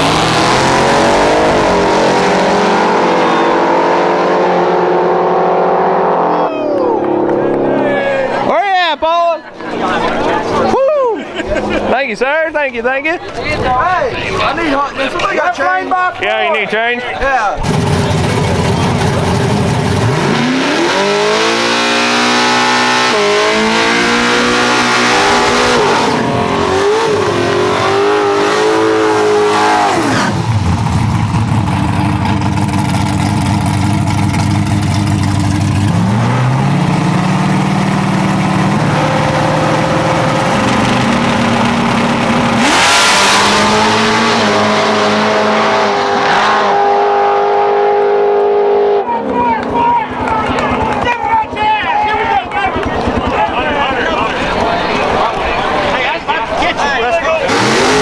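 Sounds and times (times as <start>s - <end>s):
race car engines revving: 0.0s - 16.3s, 17.5s - 58.0s.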